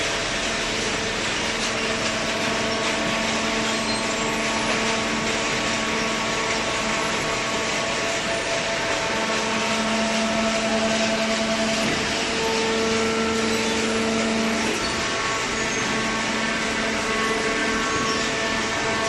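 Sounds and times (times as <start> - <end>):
baler machine humming: 0.1 - 19.0.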